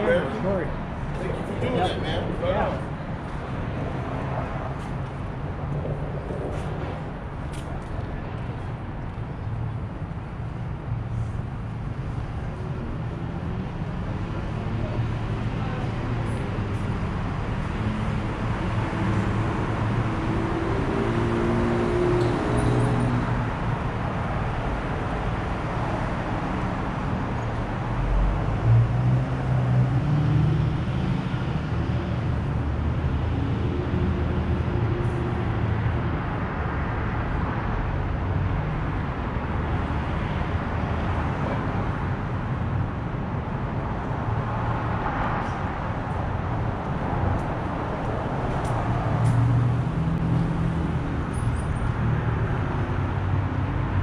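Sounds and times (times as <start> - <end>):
cars going by: 0.0 - 54.0.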